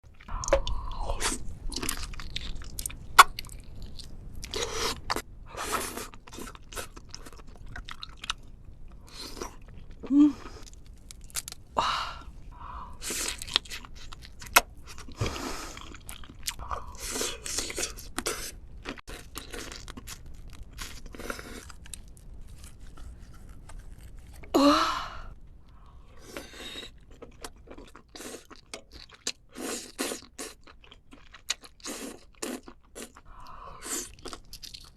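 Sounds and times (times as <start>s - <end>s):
person chewing crunchy food: 0.1s - 34.9s.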